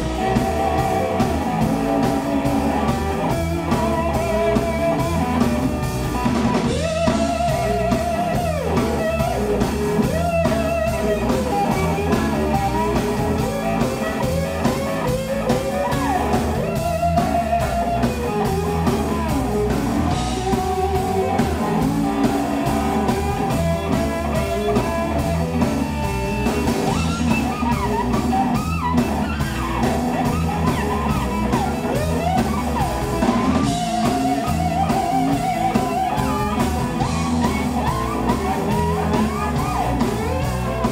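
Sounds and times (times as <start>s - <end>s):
bass guitar: 0.0s - 40.9s
drum kit: 0.0s - 40.9s
electric guitar lead with bending notes: 0.0s - 40.9s.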